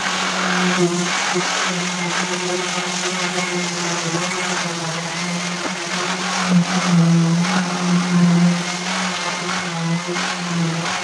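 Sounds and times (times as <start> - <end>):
electric sander motor hum: 0.0 - 11.0
sandpaper hissing on wood: 0.2 - 11.0.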